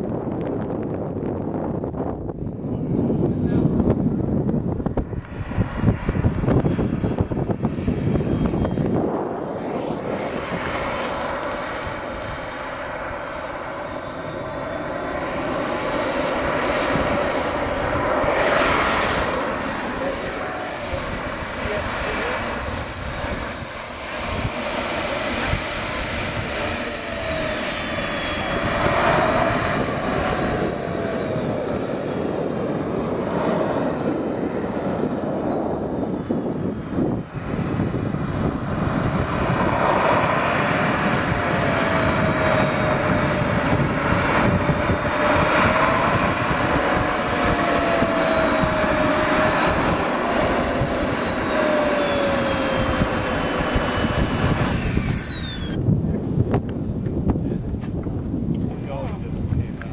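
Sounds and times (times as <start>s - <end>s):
model jet turbine whining: 0.0s - 59.9s.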